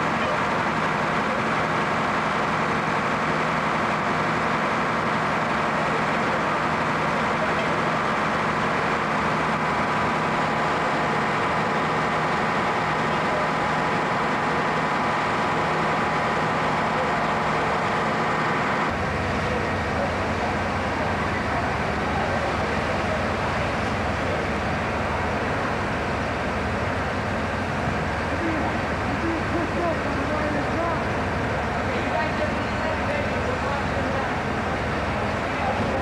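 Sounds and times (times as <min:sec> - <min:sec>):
fire engines running: 0:00.0 - 0:36.0.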